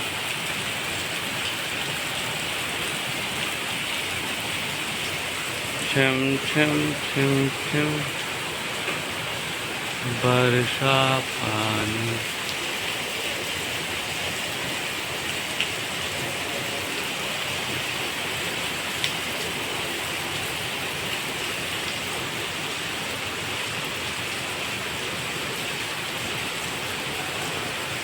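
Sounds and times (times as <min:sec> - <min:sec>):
rain pattering on hard surfaces: 0:00.0 - 0:28.0.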